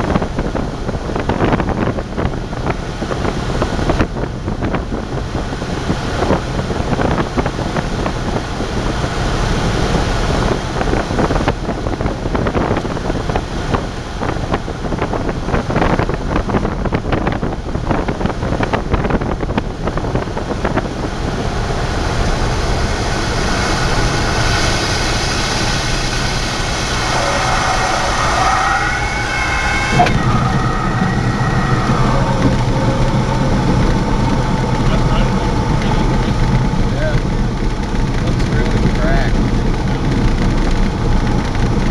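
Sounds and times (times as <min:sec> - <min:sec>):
propeller engine running: 0:00.0 - 0:41.9
wind noise: 0:00.0 - 0:41.9.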